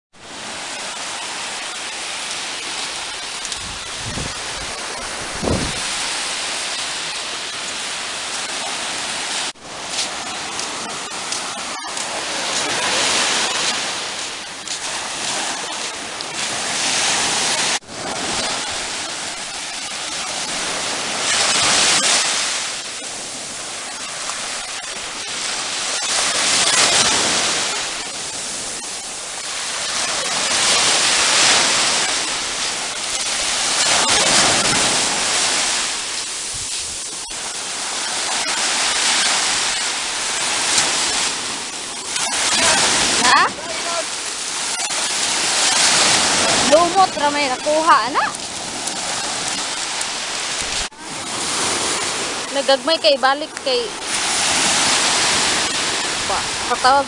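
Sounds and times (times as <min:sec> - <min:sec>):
surf washing onto beach: 0:00.2 - 0:57.0.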